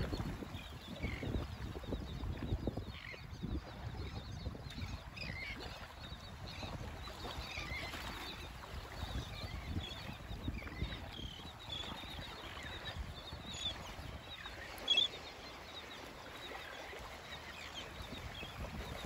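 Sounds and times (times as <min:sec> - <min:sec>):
shorebirds chirping: 0:00.0 - 0:19.0
small waves lapping: 0:00.0 - 0:19.0.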